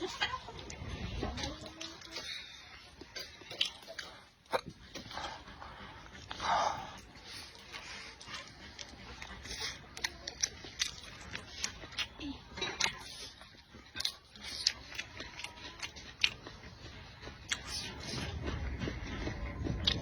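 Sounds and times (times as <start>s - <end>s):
chewing and mouth sounds: 0.0s - 20.0s.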